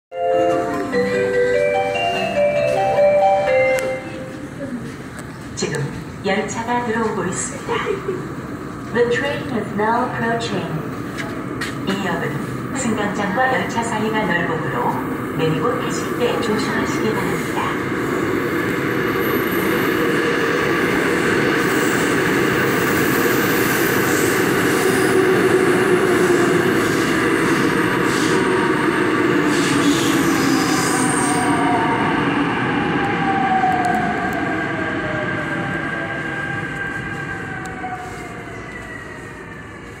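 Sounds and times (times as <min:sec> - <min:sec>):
train wheels rumbling on rail: 0:00.3 - 0:40.0.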